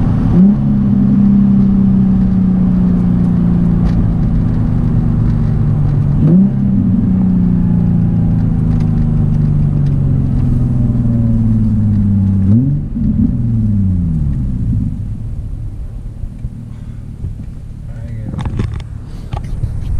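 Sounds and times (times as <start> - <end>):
car engine revving through exhaust: 0.0 - 19.9.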